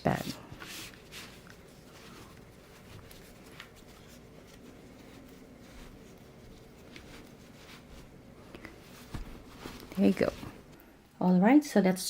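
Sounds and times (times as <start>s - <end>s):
bag rustling: 0.6s - 10.7s.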